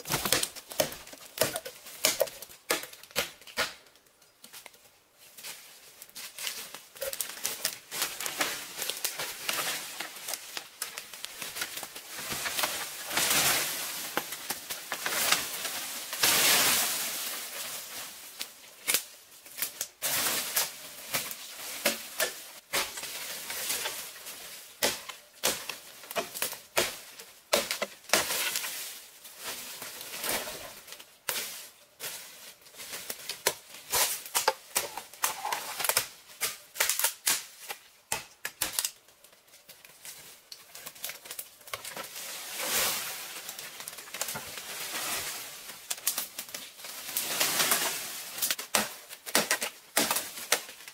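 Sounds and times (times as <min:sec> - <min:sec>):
dry leaves rustling: 0:04.5 - 0:38.0, 0:38.7 - 0:50.9.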